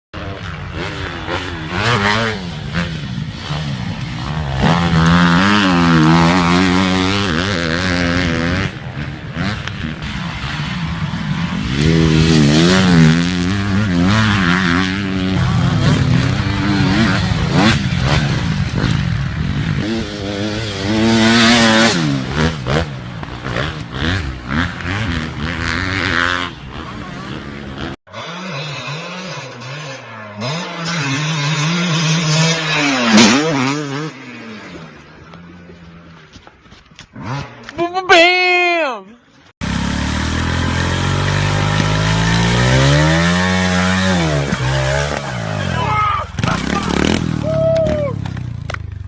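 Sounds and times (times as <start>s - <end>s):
dirt bike engines revving: 0.2s - 49.0s.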